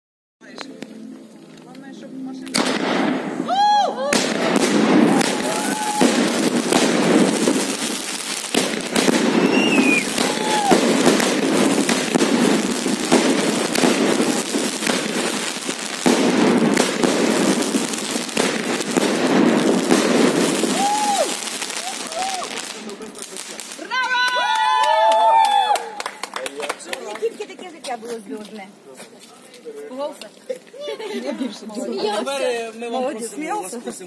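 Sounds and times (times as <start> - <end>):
fireworks popping and crackling: 0.4 - 30.7.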